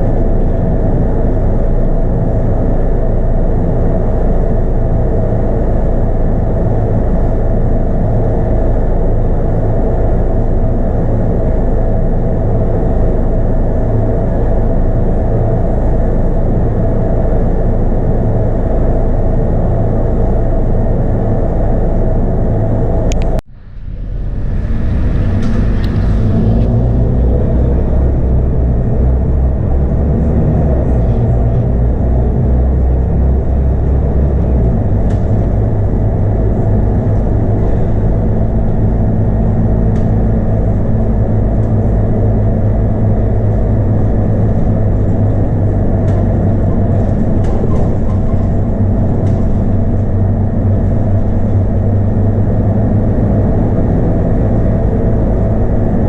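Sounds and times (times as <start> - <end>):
diesel bus engine running: 0.0 - 56.0.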